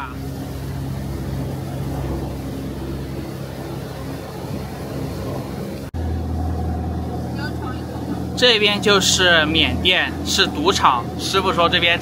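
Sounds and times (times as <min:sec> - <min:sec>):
boat engine running: 0:00.0 - 0:12.0
water rushing: 0:00.0 - 0:12.0
wind: 0:00.0 - 0:12.0.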